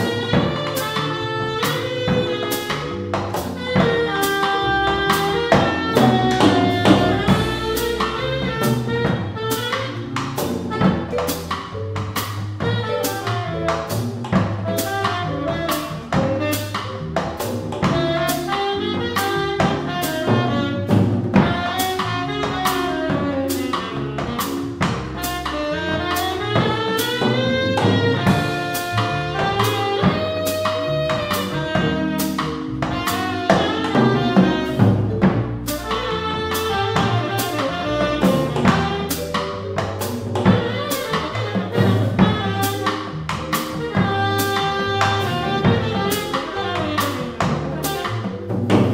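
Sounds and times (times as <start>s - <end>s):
drum kit with cymbals: 0.0s - 48.9s
keyboard: 0.0s - 48.9s
saxophone melody: 0.0s - 48.9s
upright bass: 0.0s - 48.9s.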